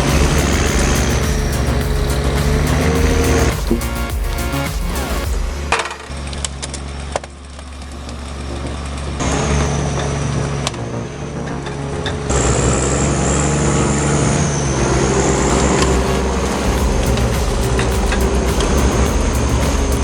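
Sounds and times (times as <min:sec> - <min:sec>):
high steady whine: 0:00.0 - 0:20.0.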